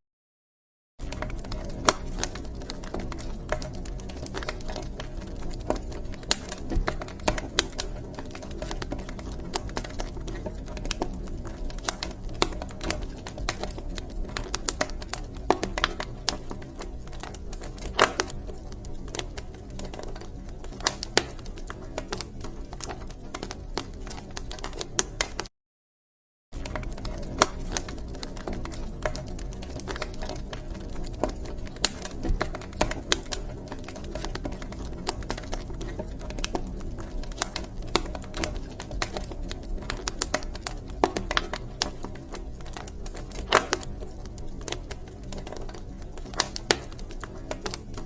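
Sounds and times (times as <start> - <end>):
wood fire crackling and popping: 1.0 - 25.5, 26.6 - 48.0.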